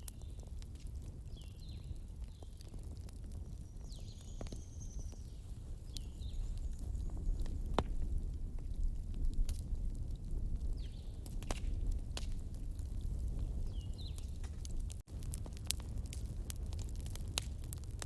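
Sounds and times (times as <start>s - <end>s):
fire crackles and pops: 0.0s - 18.0s
fireplace fire rumble: 0.0s - 18.0s.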